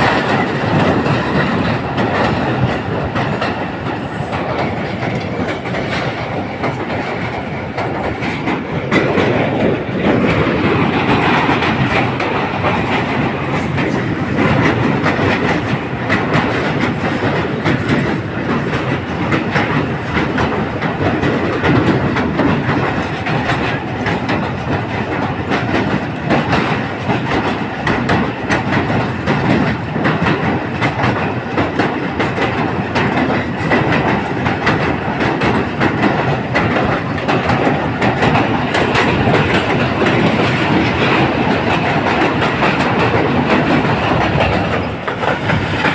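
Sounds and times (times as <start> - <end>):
train wheels clattering over rails: 0.0 - 45.9.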